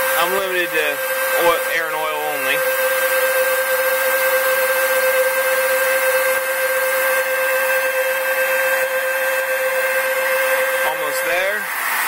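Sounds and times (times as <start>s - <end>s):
lathe machine whine: 0.0s - 12.0s.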